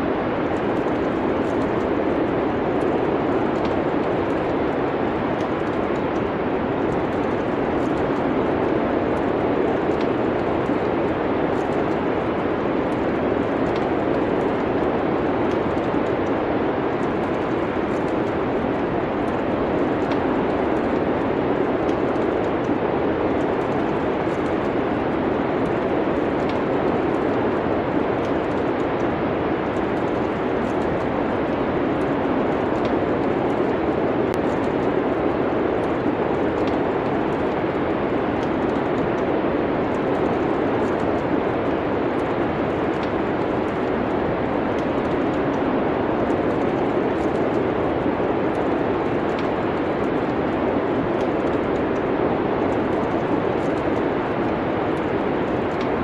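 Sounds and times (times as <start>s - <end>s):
steady rushing noise: 0.0s - 56.0s
wood fire pops and snaps: 0.4s - 56.0s.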